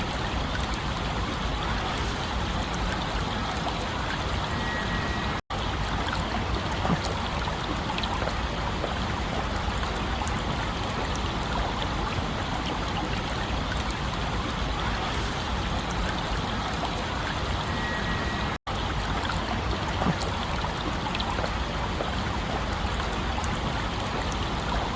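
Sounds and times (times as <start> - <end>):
stream water trickling: 0.0 - 24.9.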